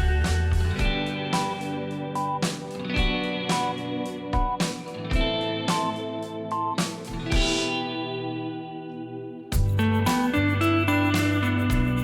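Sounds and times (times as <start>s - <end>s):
plucked guitar tune over a beat: 0.0s - 12.0s.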